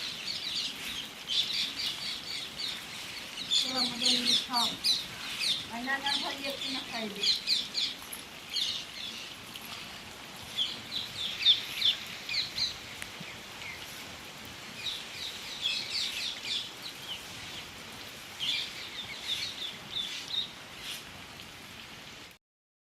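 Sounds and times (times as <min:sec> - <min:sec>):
small birds chirping: 0:00.0 - 0:21.2
background hiss: 0:00.0 - 0:22.4.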